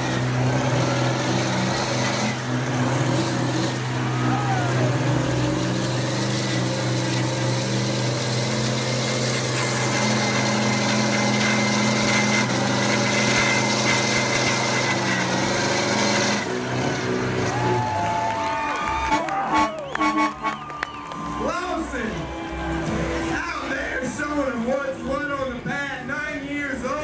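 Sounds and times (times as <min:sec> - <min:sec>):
truck engines idling: 0:00.0 - 0:27.0.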